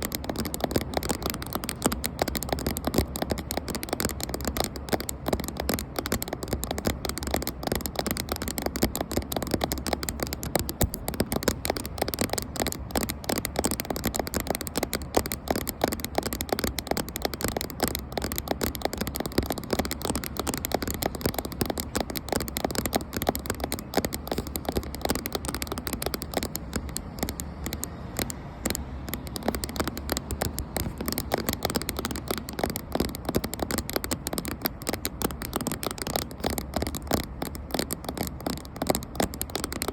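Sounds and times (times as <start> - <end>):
fingers tapping rapidly on camera: 0.0 - 39.9.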